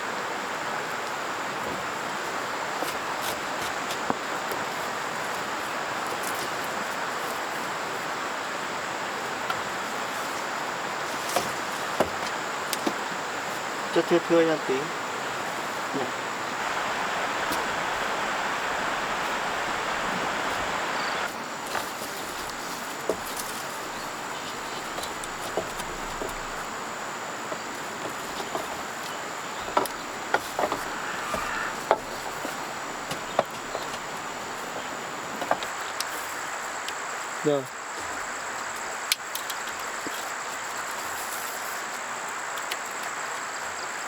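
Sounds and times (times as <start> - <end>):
insects chirring: 0.0 - 44.0
soft hiss: 0.0 - 44.0.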